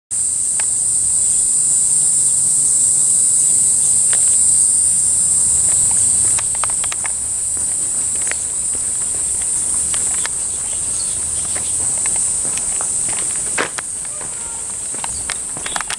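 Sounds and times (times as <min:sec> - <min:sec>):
cicadas buzzing: 0:00.1 - 0:15.9
footsteps on pavement: 0:00.2 - 0:01.0, 0:03.3 - 0:15.9.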